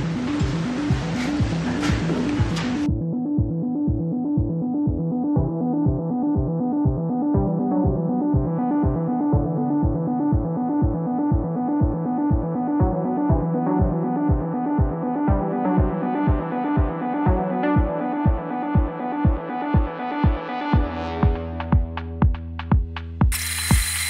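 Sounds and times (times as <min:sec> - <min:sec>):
thumping beat: 0:00.0 - 0:24.0.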